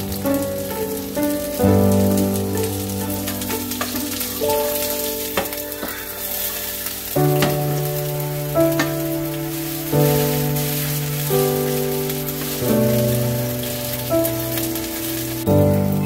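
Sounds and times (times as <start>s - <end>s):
background music sustained notes: 0.0s - 16.0s
batter sizzling in hot oil: 0.0s - 16.0s.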